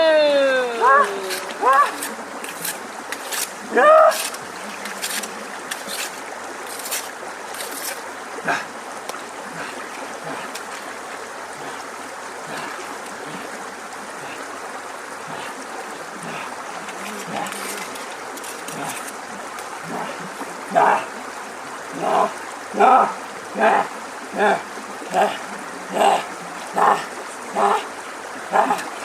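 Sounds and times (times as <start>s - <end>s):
small splashes: 0.0s - 29.0s
water trickling: 0.0s - 29.0s.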